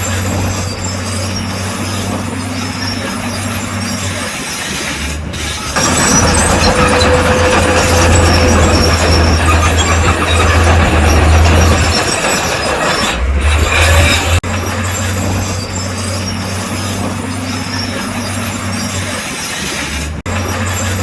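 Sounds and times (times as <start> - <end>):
diesel engine drone: 0.0 - 21.0
steel tracks clanking and squealing: 0.0 - 21.0.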